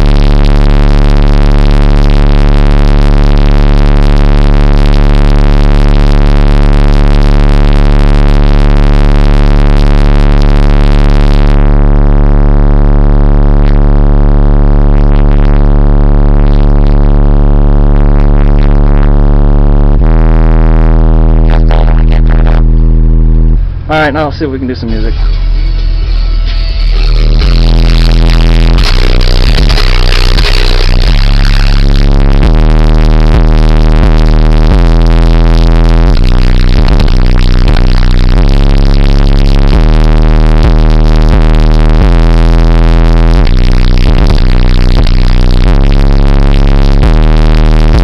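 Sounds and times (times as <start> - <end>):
distorted subwoofer bass tone: 0.0 - 48.0.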